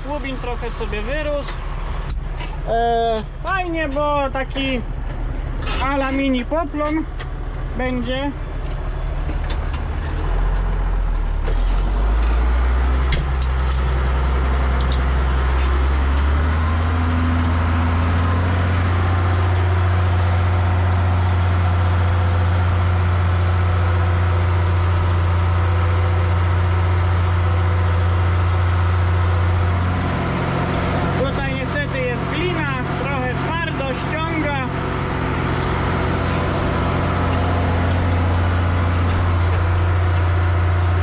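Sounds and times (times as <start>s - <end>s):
tractor engine under load: 0.0s - 41.0s.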